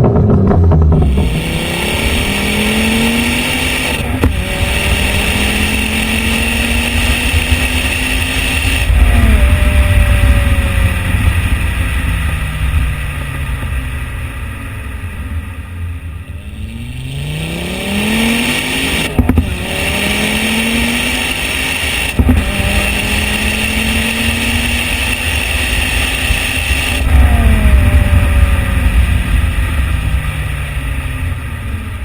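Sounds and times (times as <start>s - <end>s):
car engine accelerating: 0.0s - 32.0s
exhaust crack on upshift: 0.0s - 32.0s.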